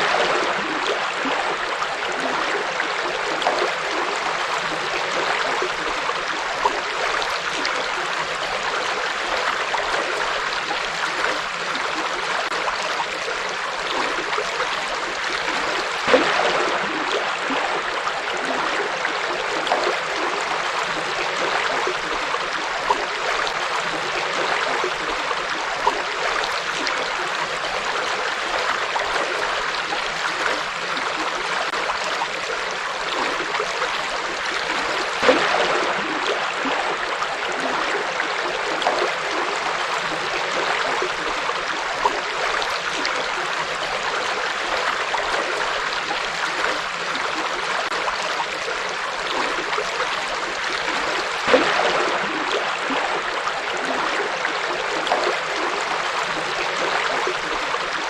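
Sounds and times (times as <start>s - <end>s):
small water splashes: 0.0s - 58.0s.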